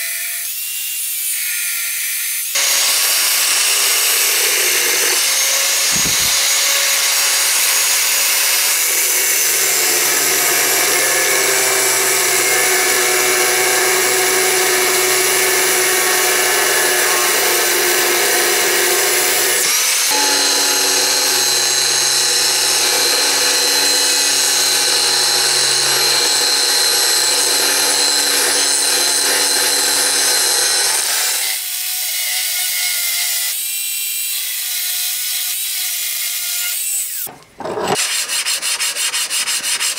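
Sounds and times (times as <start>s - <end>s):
angle grinder grinding steel: 0.0s - 33.6s.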